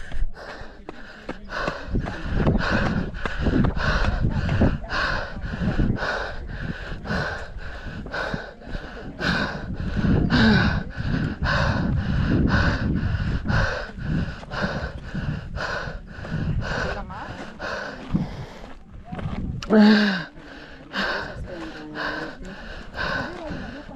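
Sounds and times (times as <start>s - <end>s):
runner breathing hard: 0.0s - 23.9s
wind rumble on microphone: 1.4s - 20.1s, 20.9s - 23.9s.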